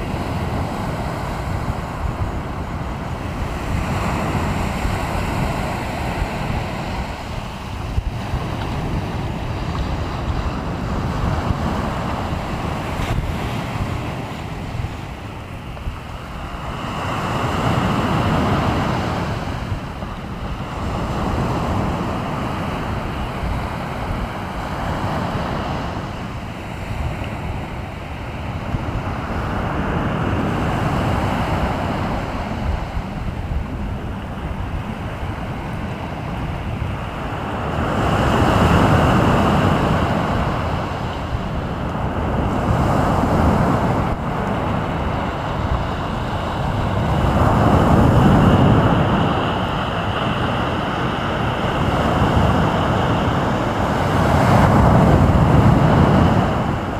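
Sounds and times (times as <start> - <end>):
waves breaking on shore: 0.0 - 56.9
wind rumbling on microphone: 0.0 - 56.9.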